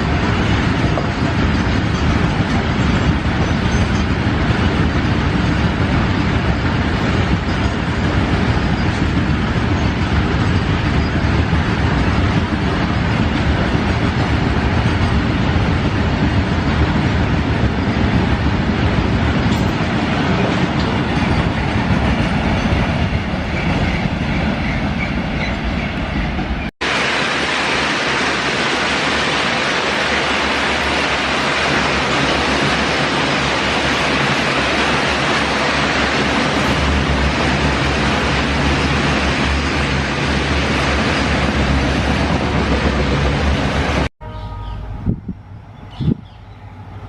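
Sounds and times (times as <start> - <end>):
goods train wagons rolling on rails: 0.0 - 44.6.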